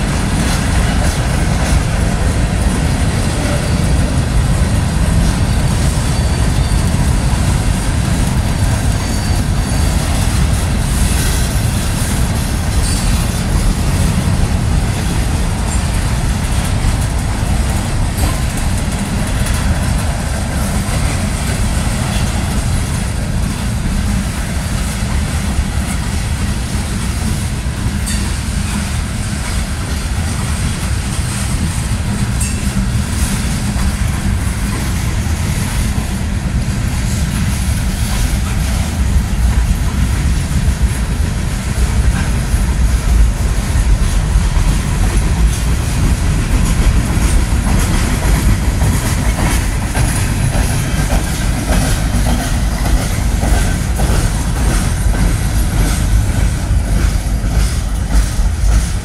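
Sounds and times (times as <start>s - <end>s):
steel wheels rumbling on rails: 0.0s - 59.0s
wheels clickety-clack over rail joints: 0.0s - 59.0s.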